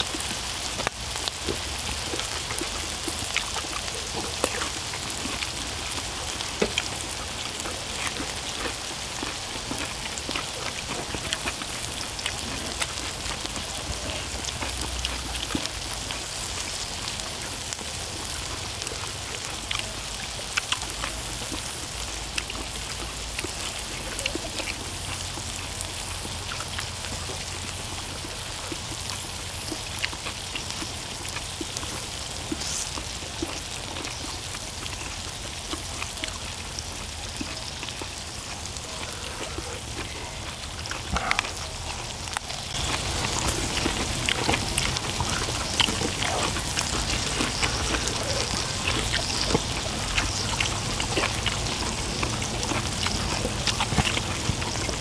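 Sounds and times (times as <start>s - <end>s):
meat sizzling and popping: 0.0s - 55.0s.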